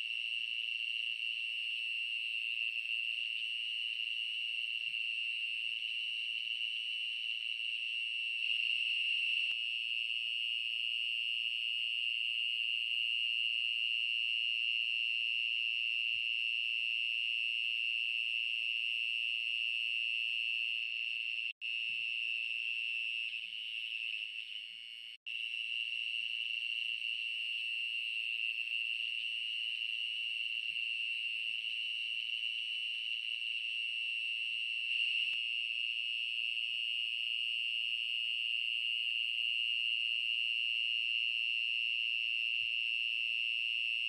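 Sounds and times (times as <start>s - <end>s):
night insects droning: 0.0s - 44.0s.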